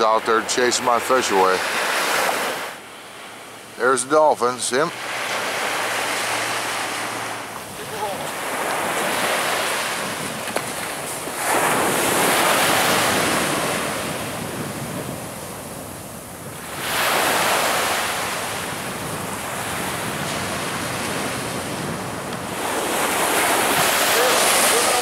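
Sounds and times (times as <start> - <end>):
surf washing up a beach: 0.0 - 25.0.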